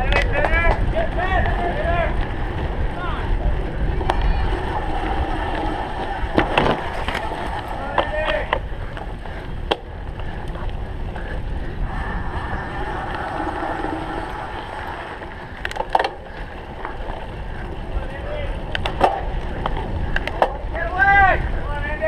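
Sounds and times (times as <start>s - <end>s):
bike clicks and knocks: 0.0s - 2.9s, 3.6s - 11.4s, 12.9s - 20.8s
wind rumbling on microphone: 0.0s - 22.0s.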